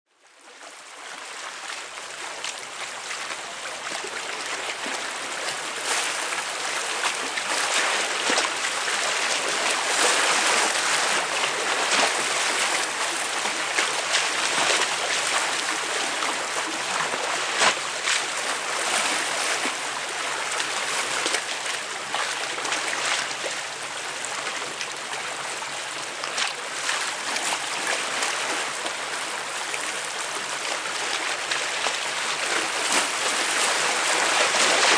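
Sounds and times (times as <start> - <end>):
waves splashing against concrete: 2.4 - 23.6, 26.3 - 34.9.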